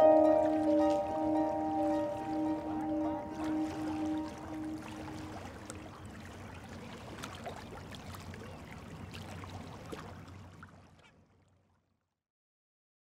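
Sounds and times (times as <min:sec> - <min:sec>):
water lapping and trickling: 0:00.0 - 0:12.1.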